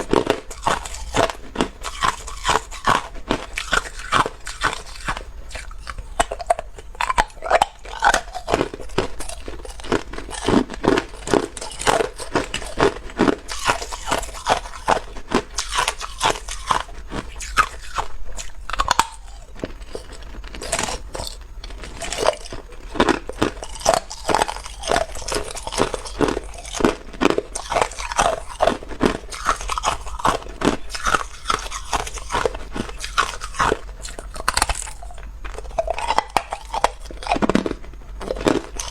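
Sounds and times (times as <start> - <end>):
ice cubes being chewed: 0.0 - 38.9.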